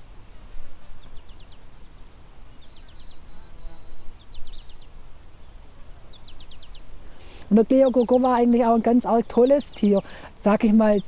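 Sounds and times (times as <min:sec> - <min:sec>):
small birds singing: 0:00.6 - 0:11.0.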